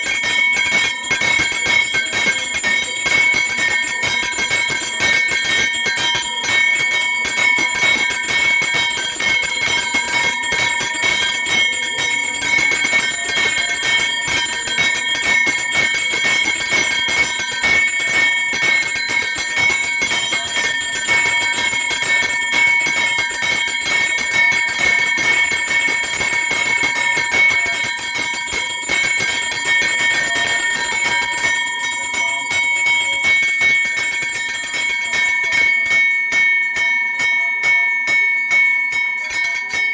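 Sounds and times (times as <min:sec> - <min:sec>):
hand bell ringing rapidly: 0:00.0 - 0:39.9.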